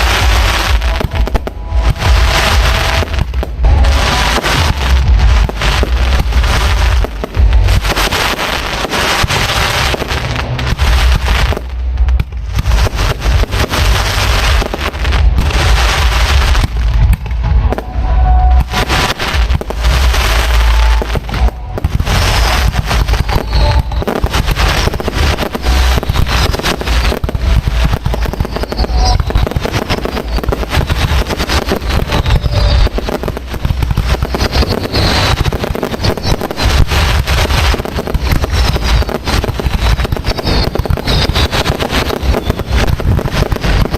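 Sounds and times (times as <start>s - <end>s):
fireworks bangs and crackling: 0.0s - 43.9s
fireworks whistles: 0.0s - 43.9s
heavy low rumble: 0.0s - 43.9s.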